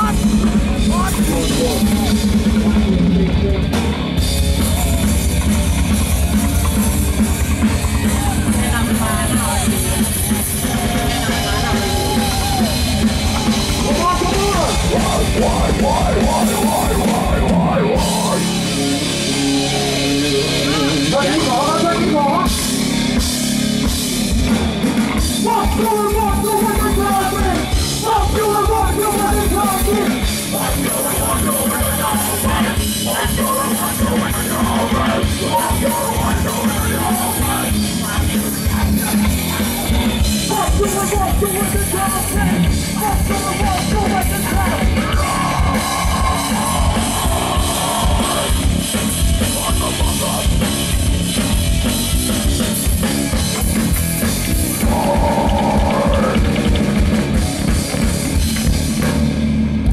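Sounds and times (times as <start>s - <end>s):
yelled vocals: 0.0s - 58.8s
bass guitar: 0.0s - 59.9s
distorted electric guitar: 0.0s - 59.9s
drum kit: 0.0s - 59.9s.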